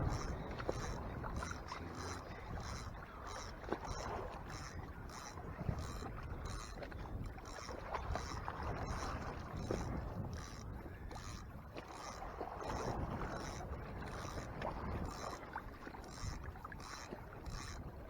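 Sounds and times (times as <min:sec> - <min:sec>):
water and wind noise: 0:00.0 - 0:18.0.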